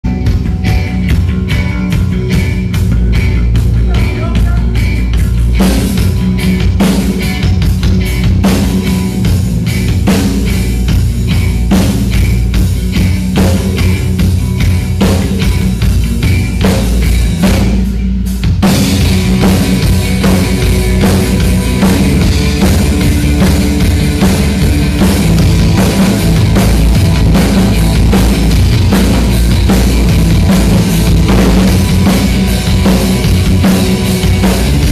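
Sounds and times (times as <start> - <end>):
drum kit: 0.0 - 34.9
rock band playing loud: 0.0 - 34.9.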